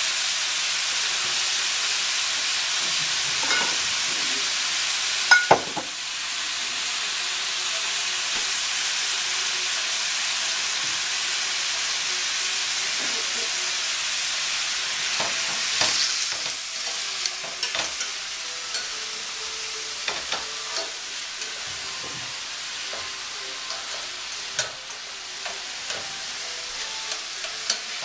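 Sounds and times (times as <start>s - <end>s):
meat and vegetables sizzling in a pan: 0.0s - 28.0s.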